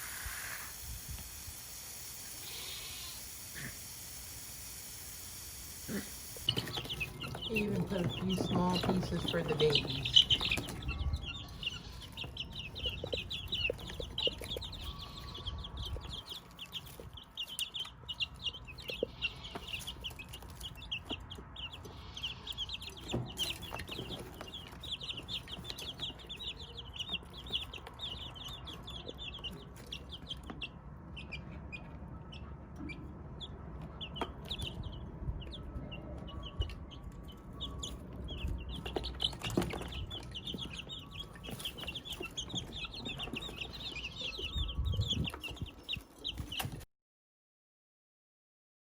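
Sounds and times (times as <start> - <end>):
chickens clucking and chirping: 0.0 - 46.8.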